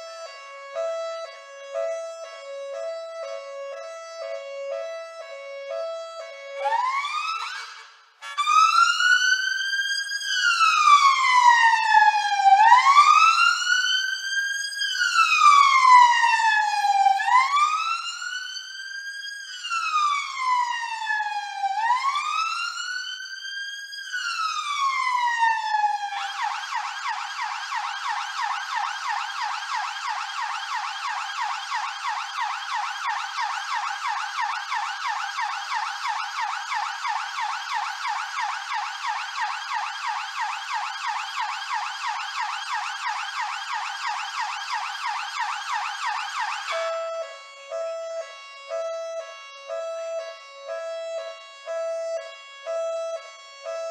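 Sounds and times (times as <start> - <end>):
police siren wailing and yelping: 0.8 - 53.9.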